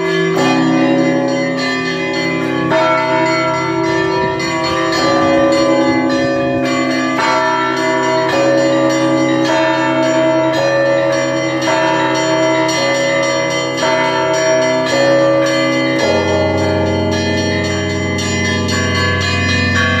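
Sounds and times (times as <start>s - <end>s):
church bells ringing: 0.0s - 20.0s
deep bell tolling: 0.0s - 20.0s.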